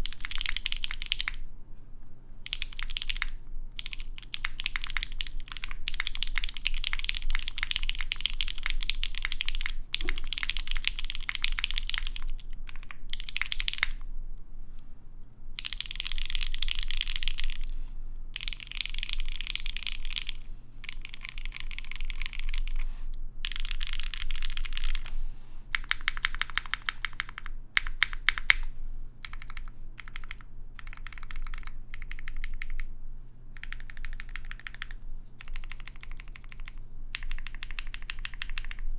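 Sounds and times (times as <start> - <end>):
mechanical keyboard typing: 0.0 - 1.4, 2.5 - 14.0, 15.6 - 17.6, 18.4 - 22.8, 23.4 - 25.1, 25.7 - 32.9, 33.6 - 38.8.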